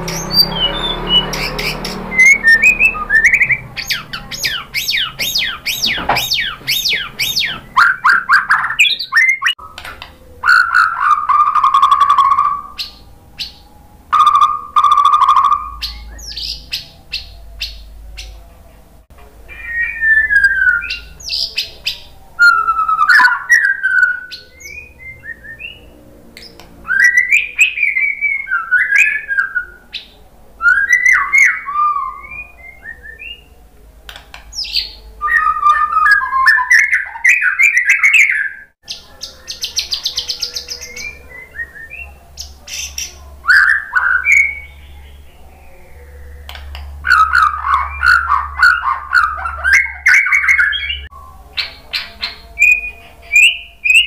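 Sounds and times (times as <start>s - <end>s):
bird singing varied phrases: 0.0s - 18.4s, 19.5s - 54.0s.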